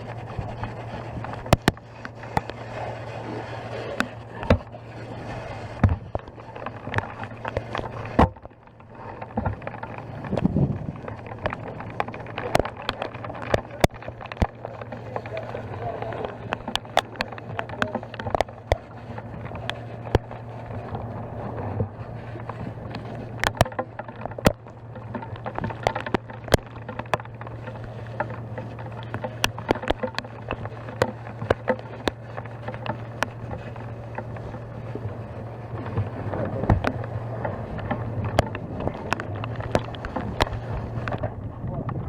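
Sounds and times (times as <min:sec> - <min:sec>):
low engine hum: 0:00.0 - 0:42.0
sharp clicks and cracks: 0:00.0 - 0:42.0.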